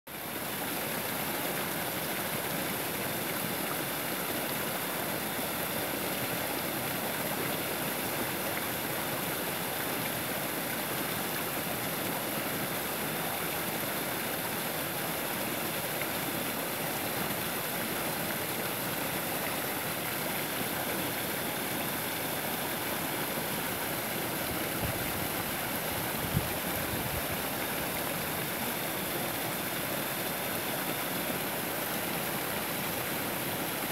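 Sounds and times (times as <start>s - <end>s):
small waterfall splashing into pool: 0.1s - 33.9s.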